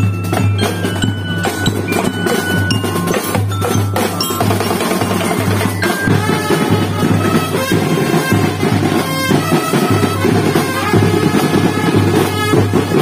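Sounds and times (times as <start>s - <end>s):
bell lyres playing melody: 0.0s - 13.0s
drums: 0.0s - 13.0s.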